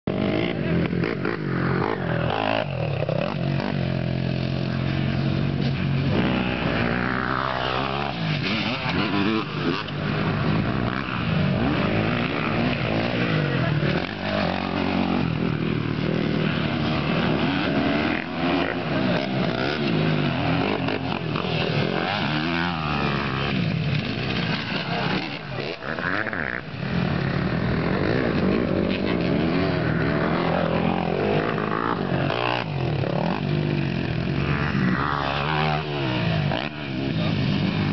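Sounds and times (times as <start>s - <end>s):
dirt bike engine revving: 0.1s - 37.9s.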